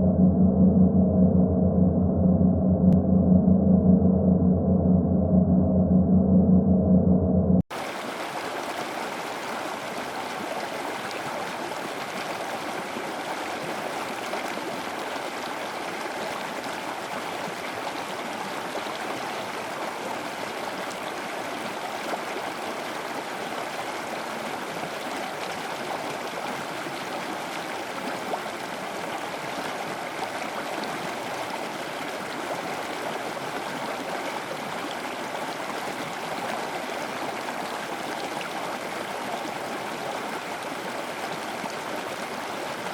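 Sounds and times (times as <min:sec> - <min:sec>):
stream water rushing: 0:07.7 - 0:42.9.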